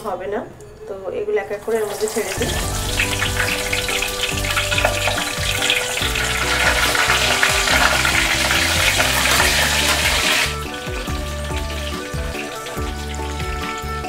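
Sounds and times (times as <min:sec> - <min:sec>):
chicken sizzling in hot oil: 0:01.6 - 0:14.0.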